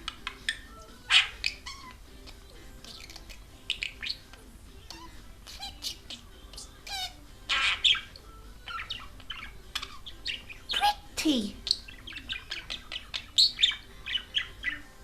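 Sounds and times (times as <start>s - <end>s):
bird squawk: 0.0s - 2.0s, 3.0s - 14.9s
budgerigar chattering: 0.0s - 14.8s.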